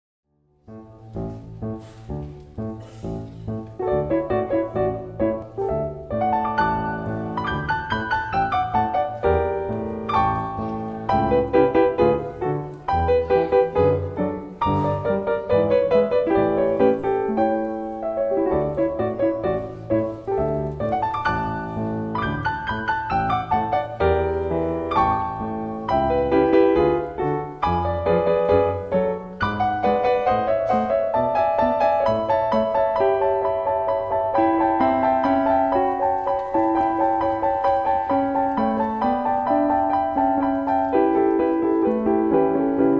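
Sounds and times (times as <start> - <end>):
piano music: 0.4 - 42.9.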